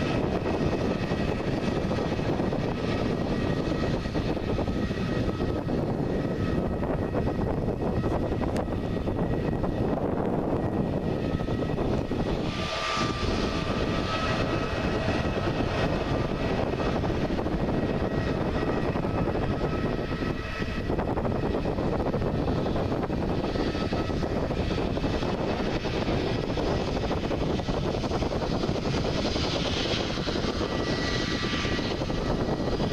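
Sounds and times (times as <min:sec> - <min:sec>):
jet engines at taxi power: 0:00.0 - 0:32.9.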